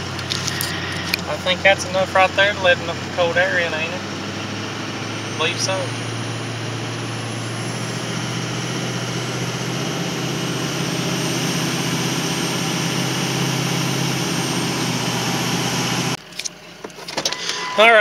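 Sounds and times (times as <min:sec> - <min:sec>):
road and wind noise: 0:00.0 - 0:17.4
engine hum: 0:00.0 - 0:18.0.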